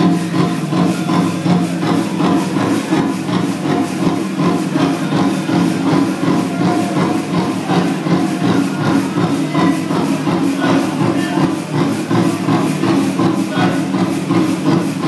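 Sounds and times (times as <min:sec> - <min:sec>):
drum group singing: 0:00.0 - 0:15.0
steady drumbeat: 0:00.0 - 0:15.0.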